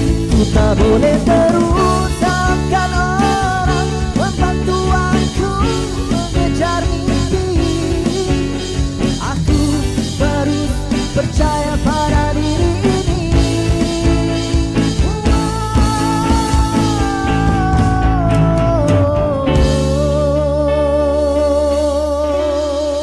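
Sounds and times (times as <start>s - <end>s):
man singing: 0.0s - 23.0s
pop rock band playing: 0.0s - 23.0s.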